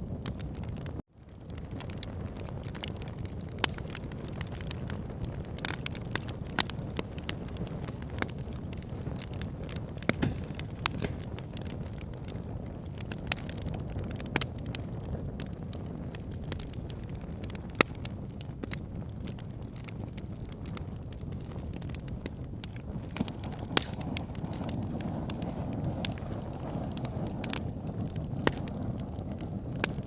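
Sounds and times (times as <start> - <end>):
burning logs crackling and popping: 0.0 - 30.0
fire flames rumbling: 0.0 - 30.0.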